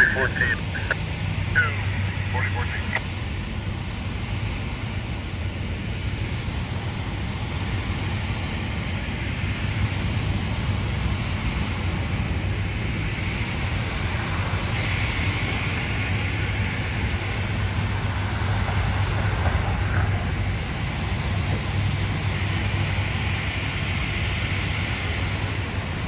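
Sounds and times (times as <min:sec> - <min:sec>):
train rumbling and hissing: 0:00.0 - 0:26.0.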